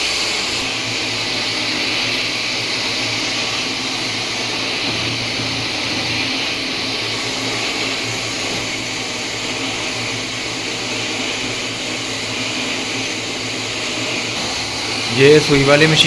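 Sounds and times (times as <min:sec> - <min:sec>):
braiding machines whirring: 0:00.0 - 0:16.0.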